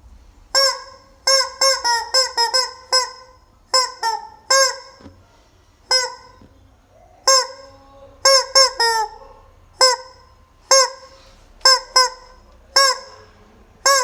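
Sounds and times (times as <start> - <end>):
rubber chicken toy squawks: 0.5 - 5.2, 5.8 - 6.5, 7.2 - 14.0.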